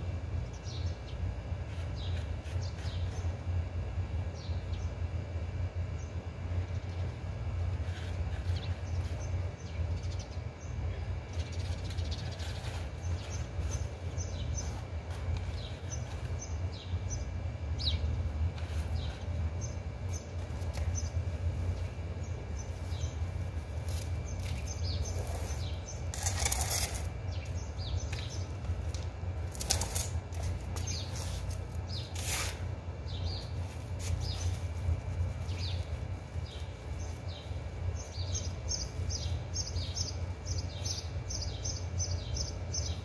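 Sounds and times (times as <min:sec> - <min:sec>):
small birds chirping: 0:00.4 - 0:03.4, 0:04.3 - 0:05.0, 0:07.8 - 0:29.0, 0:30.8 - 0:43.0.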